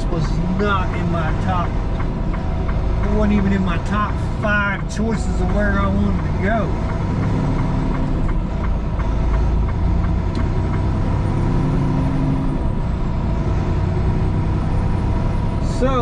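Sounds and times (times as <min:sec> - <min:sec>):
truck cab engine drone: 0:00.0 - 0:16.0.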